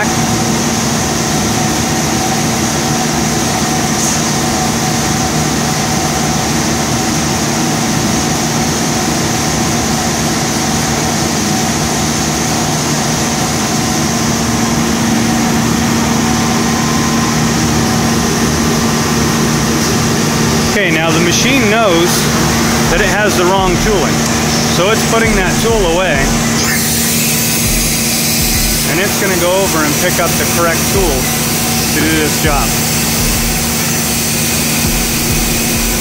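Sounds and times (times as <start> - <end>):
machining center drone: 0.0 - 36.0.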